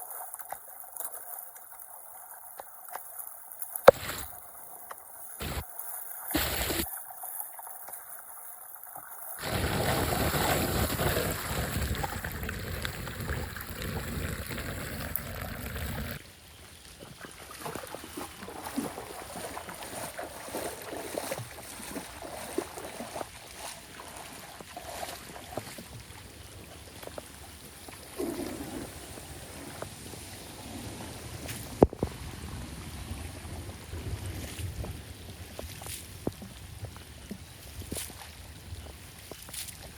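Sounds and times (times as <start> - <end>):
floodwater rushing down drain: 0.0 - 39.9.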